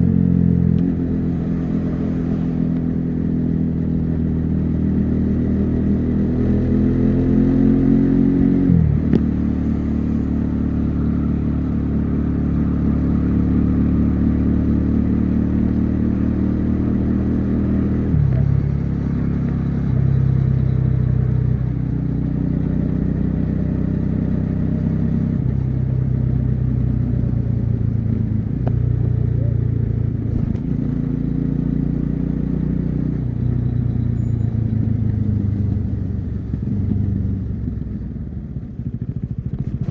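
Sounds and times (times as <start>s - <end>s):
motorcycle engine and exhaust: 0.0s - 39.9s
wind and road noise: 0.0s - 39.9s.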